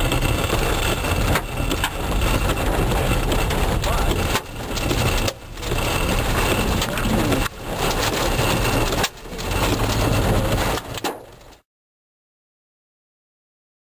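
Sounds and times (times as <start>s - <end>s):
storm wind rumbling: 0.0s - 11.6s.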